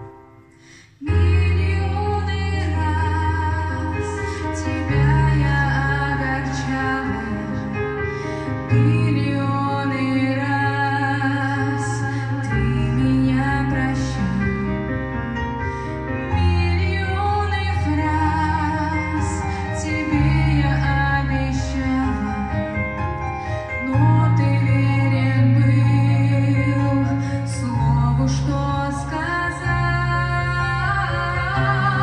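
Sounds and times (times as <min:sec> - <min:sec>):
woman singing into a microphone: 0:00.6 - 0:32.0.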